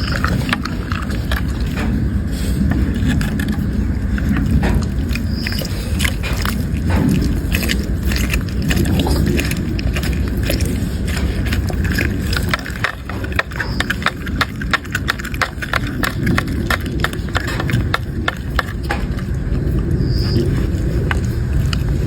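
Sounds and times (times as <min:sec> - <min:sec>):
dog crunching food: 0:00.0 - 0:22.0
steady low rumble: 0:00.0 - 0:22.0.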